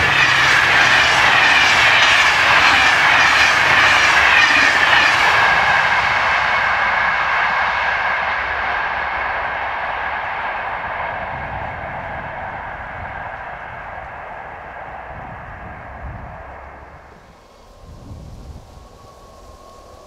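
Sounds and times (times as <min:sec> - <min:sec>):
train wheels clattering over rails: 0:00.0 - 0:17.1
locomotive rushing past: 0:00.0 - 0:20.0.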